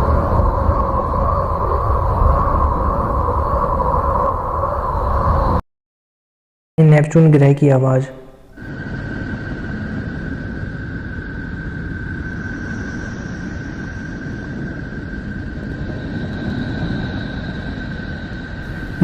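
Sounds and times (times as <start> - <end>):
low rumbling drone: 0.0 - 5.4, 8.1 - 19.0.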